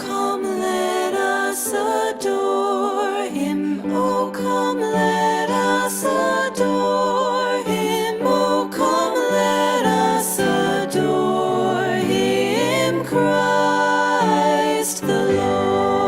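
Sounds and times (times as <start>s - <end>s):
slow sung christmas song: 0.0s - 16.0s.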